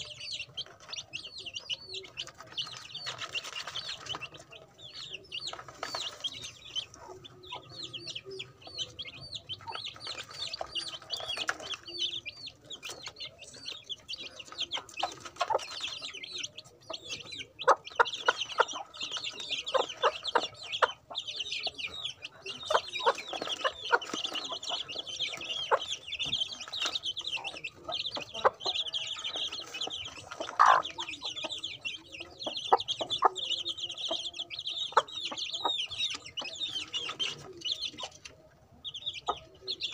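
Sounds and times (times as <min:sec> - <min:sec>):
beaks pecking at tray: 0:00.0 - 0:39.9
chicks peeping: 0:00.0 - 0:39.9.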